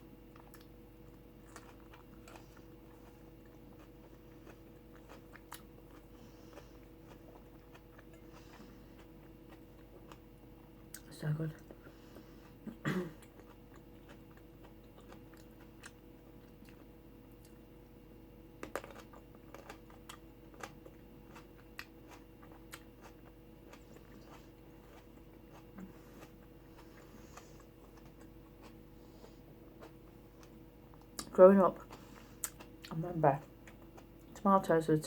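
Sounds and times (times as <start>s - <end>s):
person chewing: 0.3s - 17.6s, 18.6s - 34.4s.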